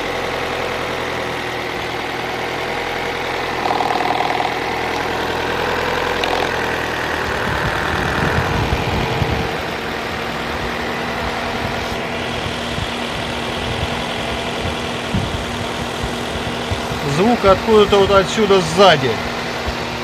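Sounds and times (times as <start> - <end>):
car engine idling: 0.0 - 20.0
engine knocking: 0.0 - 20.0.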